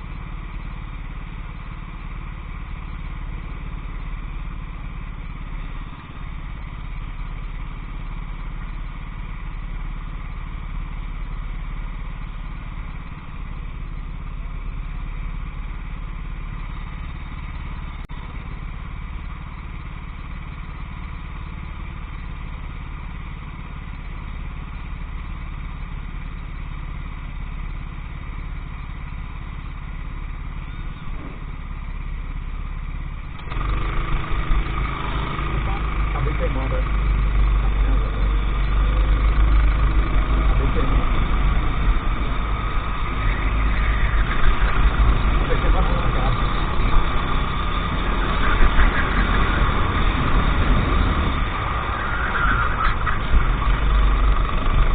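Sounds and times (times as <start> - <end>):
go-kart engine running: 0.0 - 54.9.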